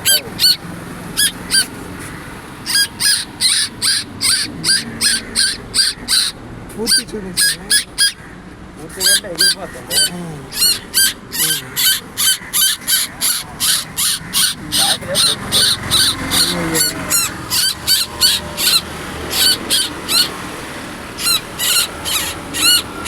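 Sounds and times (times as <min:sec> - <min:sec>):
bird calling in shrill notes: 0:00.0 - 0:23.0.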